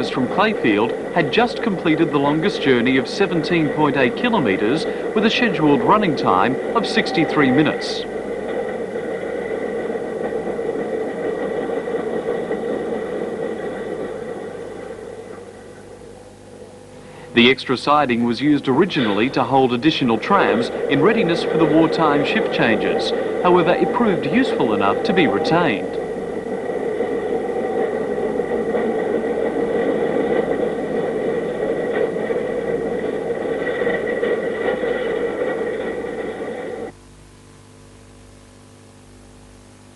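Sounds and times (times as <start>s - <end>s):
mechanical running noise: 0.0s - 37.0s
faint high whine: 0.0s - 39.9s.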